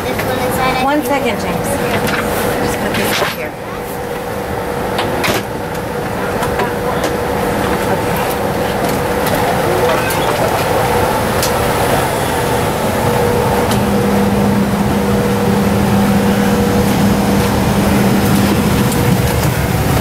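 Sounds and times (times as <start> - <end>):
cabin air rush and machinery hum: 0.0 - 20.0.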